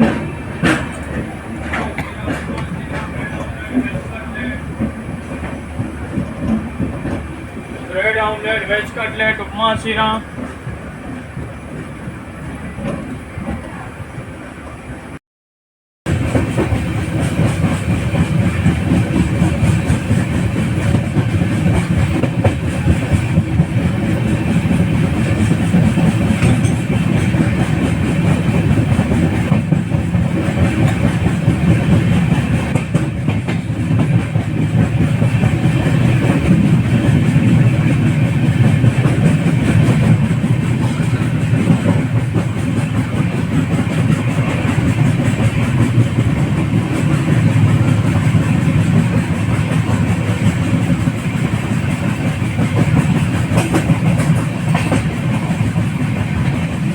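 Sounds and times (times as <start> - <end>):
train wheels rumbling on track: 0.0 - 15.2, 16.0 - 56.9.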